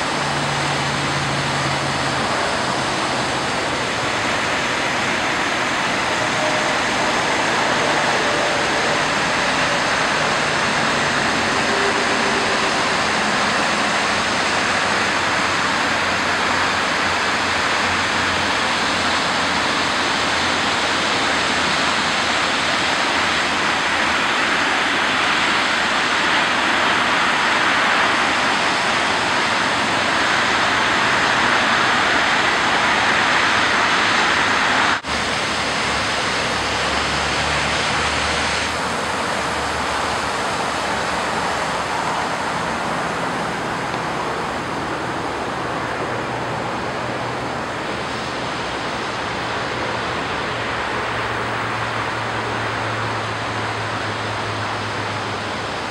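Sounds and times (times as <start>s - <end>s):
fast-flowing creek water rushing: 0.0s - 55.9s
whitewater pouring over concrete: 0.0s - 55.9s.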